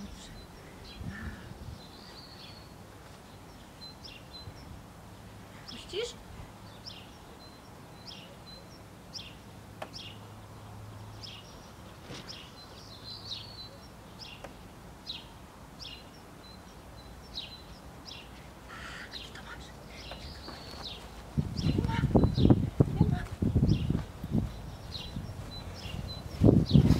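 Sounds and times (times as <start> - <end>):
faint outdoor background noise: 0.0 - 26.9
small birds chirping: 0.0 - 26.9.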